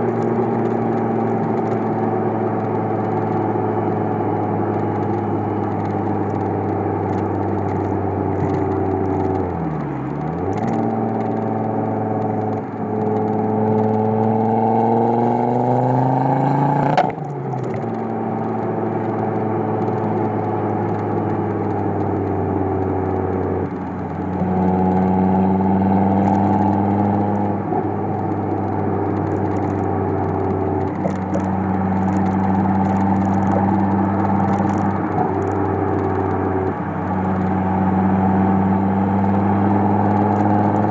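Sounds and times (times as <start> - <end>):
exhaust crack at gear change: 0.0 - 15.6, 16.8 - 40.9
car exhaust accelerating: 0.0 - 40.9
road and wind noise: 0.0 - 40.9.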